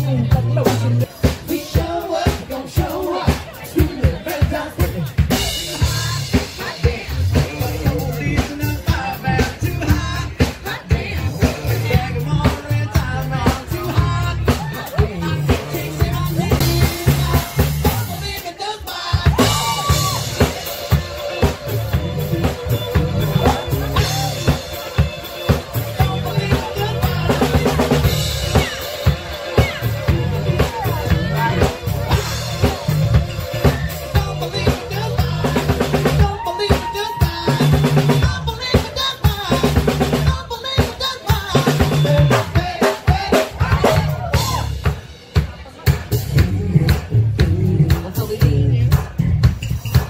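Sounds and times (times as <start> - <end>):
people singing: 0.0 - 49.4
bass guitar: 0.0 - 50.0
drum kit beat: 0.0 - 50.0
keyboard: 0.0 - 50.0.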